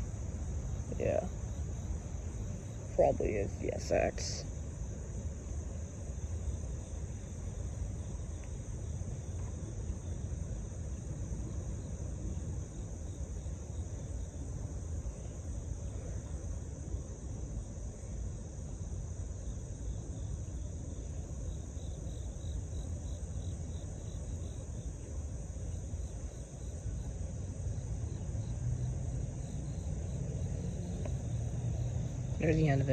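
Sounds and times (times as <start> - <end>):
insects chirring: 0.0 - 32.9.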